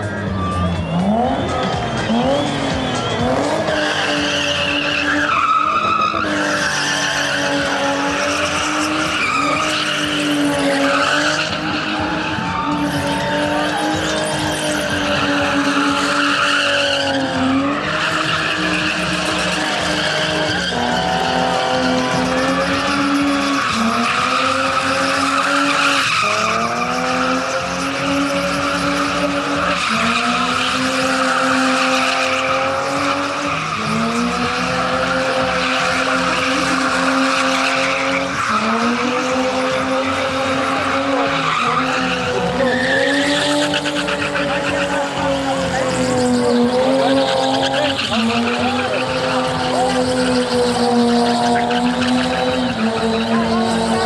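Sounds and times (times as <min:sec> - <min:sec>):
car engine revving high: 0:00.0 - 0:54.0
tyres squealing: 0:00.0 - 0:54.0.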